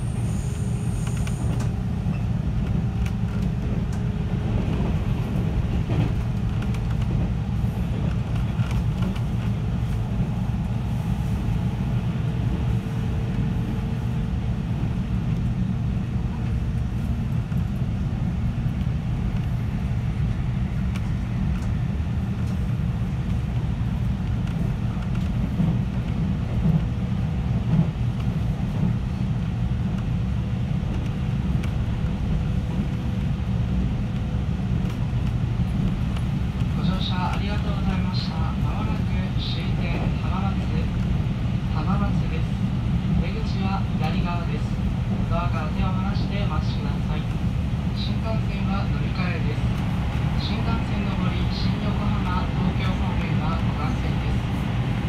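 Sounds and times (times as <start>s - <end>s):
train rumble from inside: 0.0s - 55.0s.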